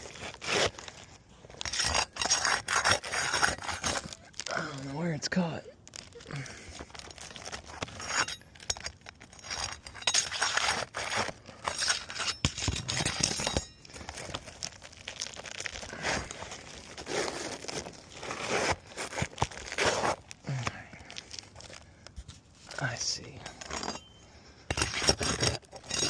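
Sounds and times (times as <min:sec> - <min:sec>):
roof shingles scraping and crinkling: 0:00.0 - 0:23.4.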